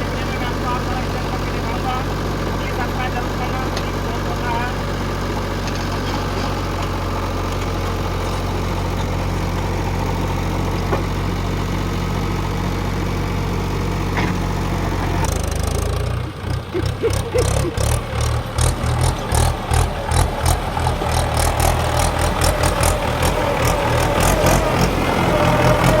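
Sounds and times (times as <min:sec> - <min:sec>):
diesel engine idling: 0:00.0 - 0:26.0
rapid engine pulsing: 0:00.0 - 0:26.0.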